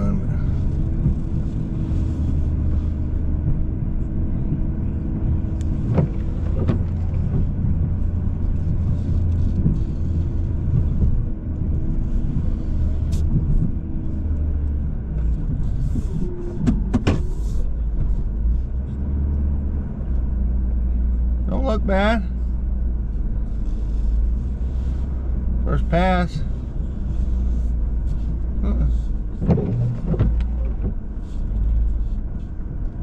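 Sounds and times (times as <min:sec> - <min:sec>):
vehicle engine under load: 0:00.0 - 0:33.0.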